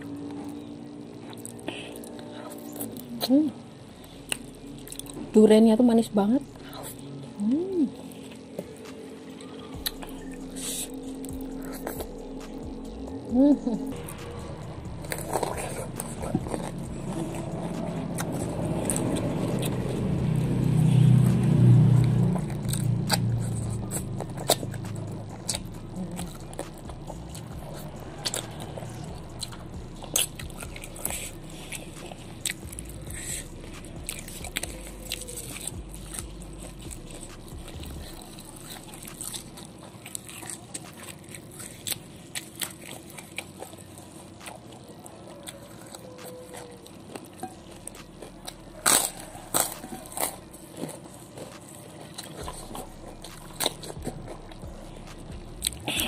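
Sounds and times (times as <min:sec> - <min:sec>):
chewing and smacking: 0:00.0 - 0:56.0.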